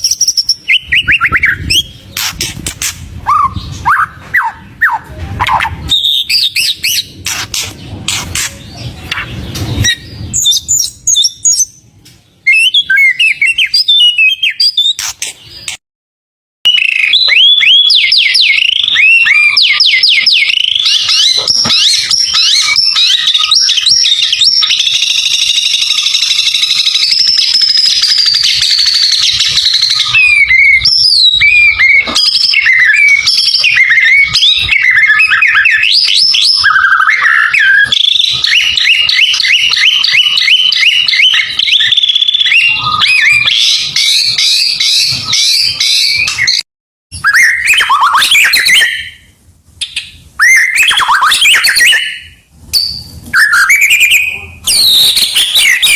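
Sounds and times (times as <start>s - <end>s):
bird singing whistled notes: 0.0s - 7.7s, 8.4s - 15.8s, 16.7s - 46.6s, 47.2s - 55.9s.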